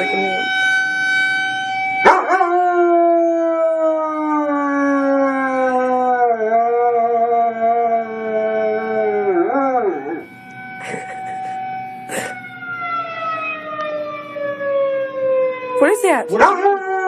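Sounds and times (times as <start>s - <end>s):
recorded tornado siren: 0.0s - 17.0s.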